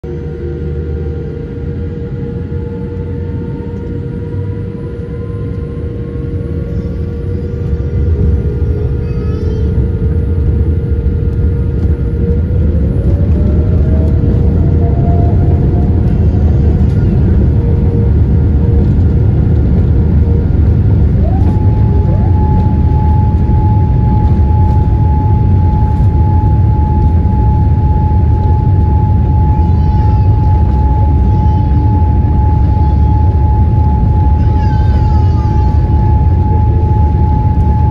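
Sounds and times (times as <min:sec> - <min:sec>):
jet engine rumble: 0:00.0 - 0:37.9
jet engine whine: 0:00.0 - 0:37.9.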